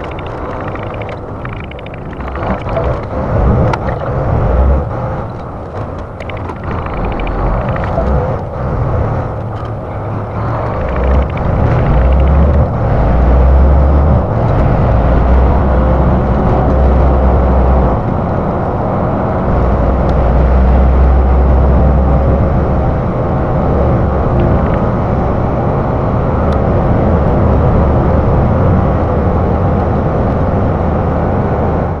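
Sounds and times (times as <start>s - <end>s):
vehicle road noise: 0.0s - 32.0s.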